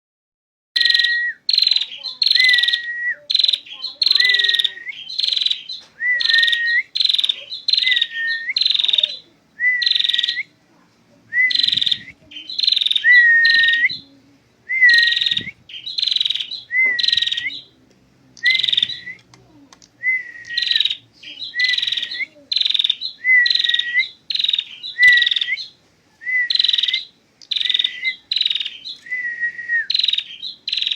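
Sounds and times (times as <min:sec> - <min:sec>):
songbird buzzy whistled calls: 0:00.8 - 0:10.5, 0:11.4 - 0:14.1, 0:14.7 - 0:17.7, 0:18.4 - 0:19.2, 0:20.0 - 0:30.9.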